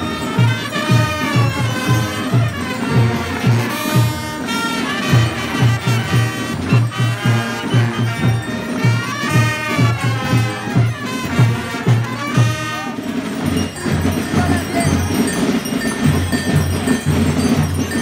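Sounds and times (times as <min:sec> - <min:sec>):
brass band music: 0:00.0 - 0:15.9
jangling bells: 0:00.0 - 0:18.0
steady drum beat: 0:00.0 - 0:18.0.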